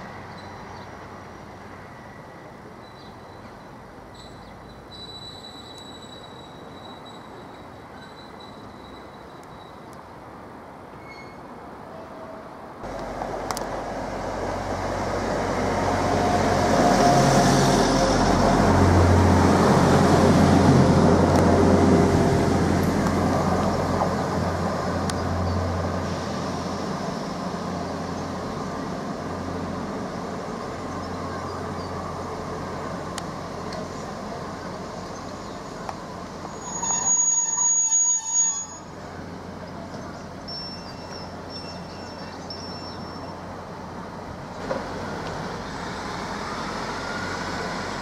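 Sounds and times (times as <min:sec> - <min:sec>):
diesel train engines droning: 0:00.0 - 0:48.0.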